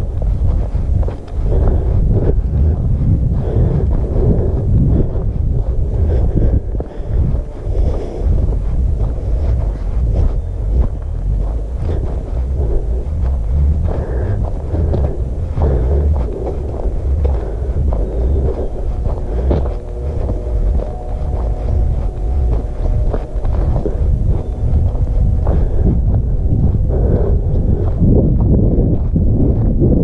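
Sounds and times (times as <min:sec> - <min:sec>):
faint multi-pitched hum: 0:00.0 - 0:30.0
footsteps on dirt trail: 0:00.0 - 0:30.0
wind buffeting microphone: 0:00.0 - 0:30.0.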